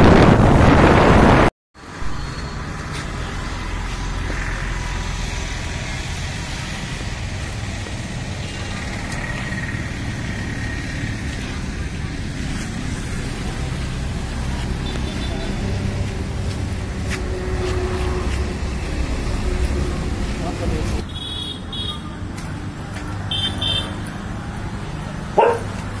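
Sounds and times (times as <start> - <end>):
low rumble of traffic: 1.8 - 26.0.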